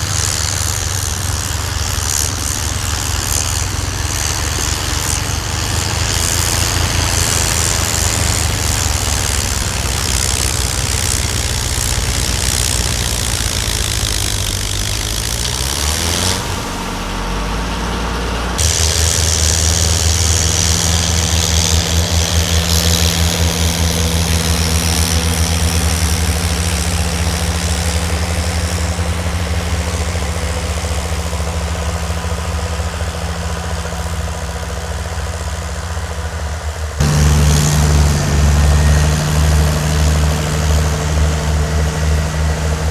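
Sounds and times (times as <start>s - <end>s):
snowblower engine running: 0.0s - 42.9s.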